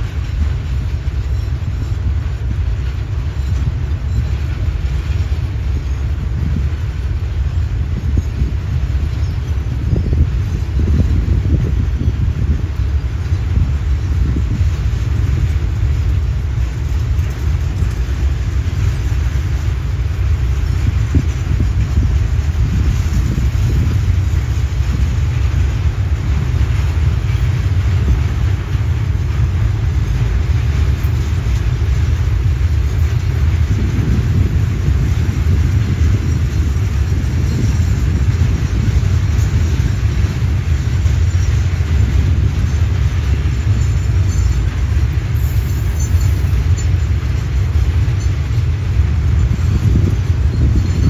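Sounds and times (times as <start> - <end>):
freight train rolling past: 0.0 - 51.0.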